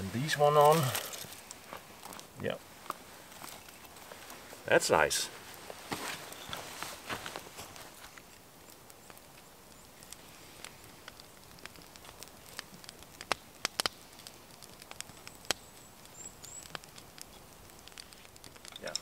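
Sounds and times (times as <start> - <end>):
kindling fire crackling and popping: 0.0 - 19.0.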